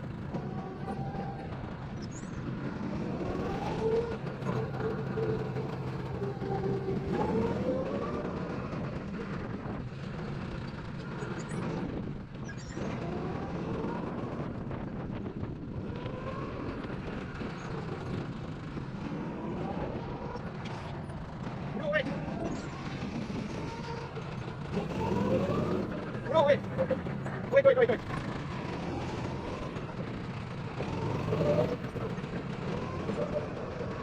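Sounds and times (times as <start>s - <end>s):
go-kart engines revving: 0.0s - 34.0s.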